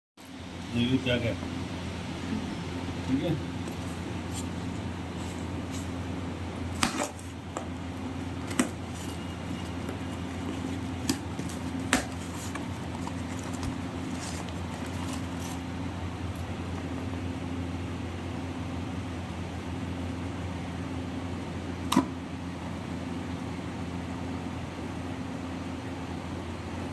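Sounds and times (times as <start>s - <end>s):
steady low hum: 0.2s - 26.9s.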